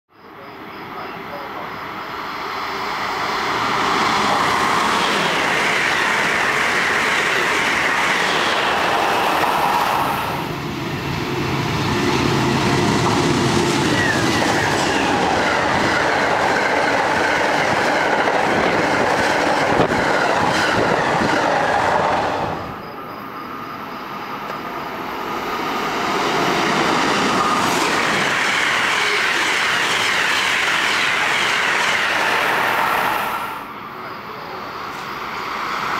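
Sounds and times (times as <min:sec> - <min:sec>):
train wheel and rail noise: 0:00.1 - 0:35.9.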